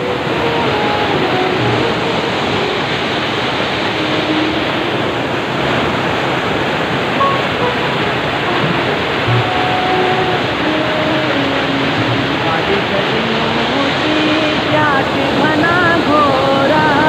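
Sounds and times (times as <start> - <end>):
stream roaring over rock: 0.0 - 17.0.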